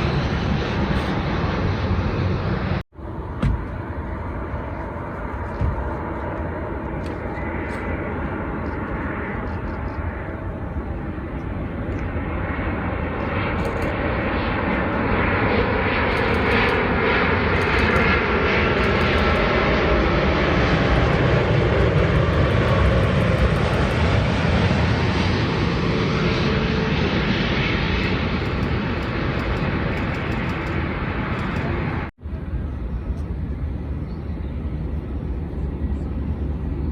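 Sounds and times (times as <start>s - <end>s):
jet airliner passing low: 0.0s - 36.9s.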